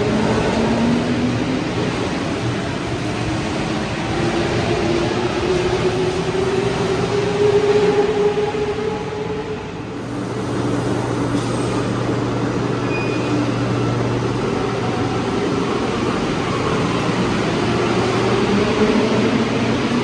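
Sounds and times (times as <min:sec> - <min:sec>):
metro train rolling noise: 0:00.0 - 0:20.0.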